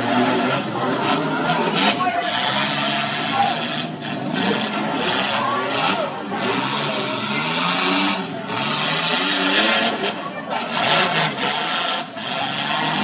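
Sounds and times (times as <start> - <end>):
car engines revving hard: 0.0 - 13.0
voices: 0.0 - 13.0.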